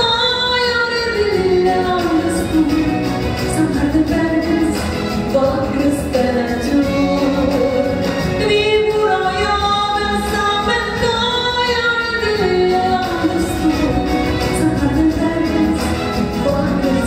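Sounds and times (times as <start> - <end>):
instrumental accompaniment: 0.0 - 17.0
woman singing: 0.0 - 17.0.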